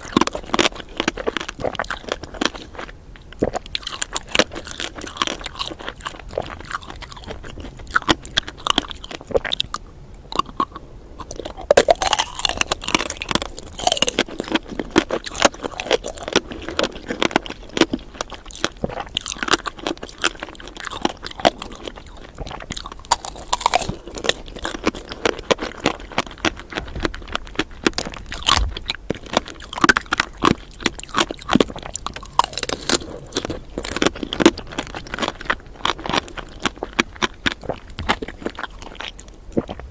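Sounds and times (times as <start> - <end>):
candied fruit crunching: 0.0 - 39.9.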